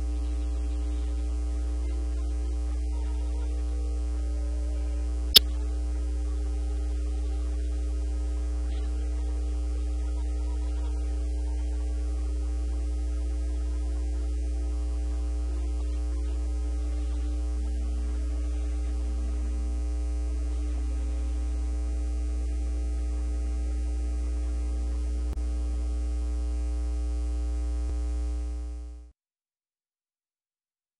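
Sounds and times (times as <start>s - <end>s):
electrical mains hum: 0.0s - 29.1s.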